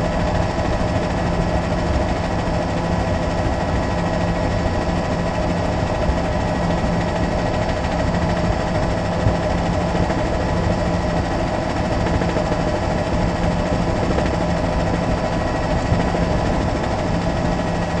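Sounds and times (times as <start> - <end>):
helicopter engine and rotor: 0.0 - 18.0.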